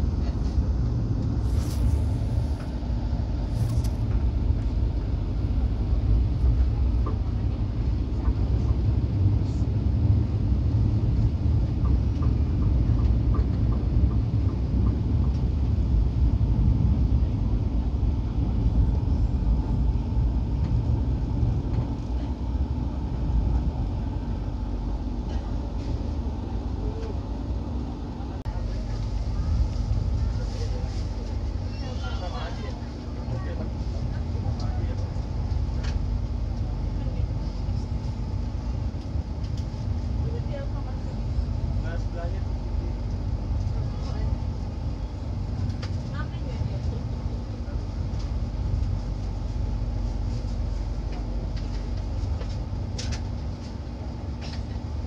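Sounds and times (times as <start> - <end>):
train carriage rumbling on rails: 0.0 - 55.0.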